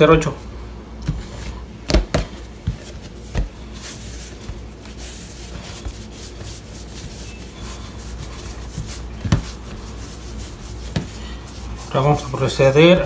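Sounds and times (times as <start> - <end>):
hands rubbing dough: 1.0 - 13.0.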